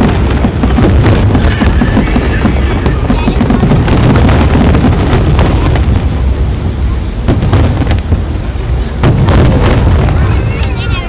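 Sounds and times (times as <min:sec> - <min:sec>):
deep rumble: 0:00.0 - 0:11.0
firework bangs: 0:00.0 - 0:11.0.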